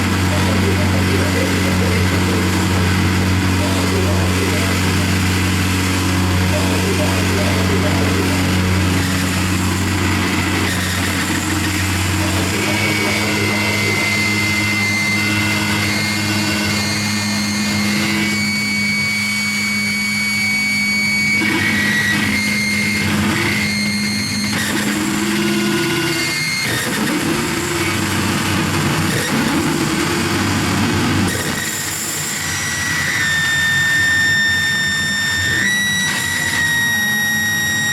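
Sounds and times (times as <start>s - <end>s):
harsh electronic noise music: 0.0s - 37.9s
low steady drone: 0.0s - 37.9s.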